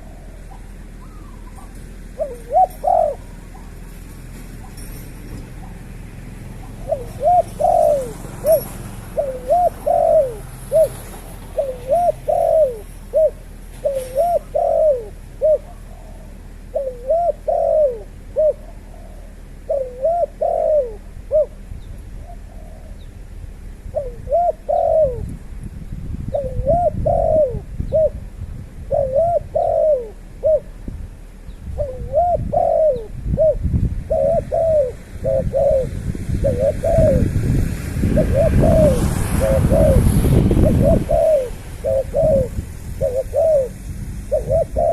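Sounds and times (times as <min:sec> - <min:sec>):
bird calling: 0:00.0 - 0:23.2, 0:24.0 - 0:25.3, 0:26.3 - 0:28.2, 0:28.9 - 0:30.8, 0:31.4 - 0:37.3, 0:38.2 - 0:44.9
low rumbling noise: 0:00.0 - 0:44.9.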